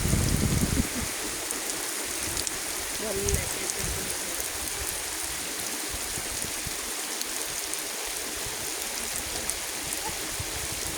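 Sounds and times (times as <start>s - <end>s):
steady rain falling: 0.0s - 10.9s.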